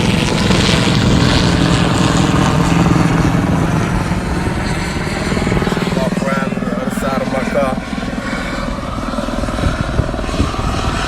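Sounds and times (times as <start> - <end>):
vehicle engine droning hum: 0.0 - 11.0.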